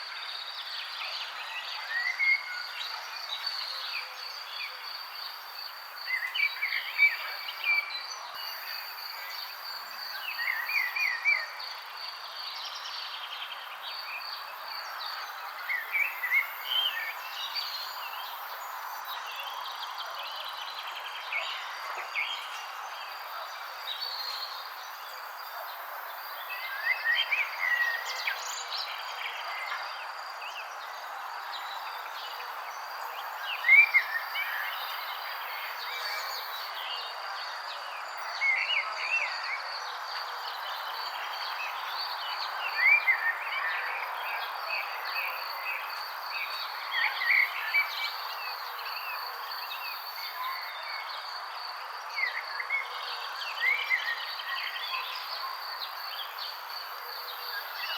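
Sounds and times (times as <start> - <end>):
background chorus hiss: 0.0 - 57.9.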